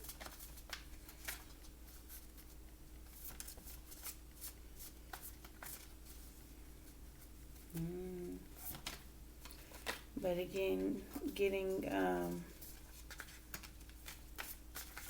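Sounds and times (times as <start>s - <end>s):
cards being shuffled by hand: 0.0s - 6.4s, 8.5s - 15.0s
faint low hum: 0.0s - 15.0s.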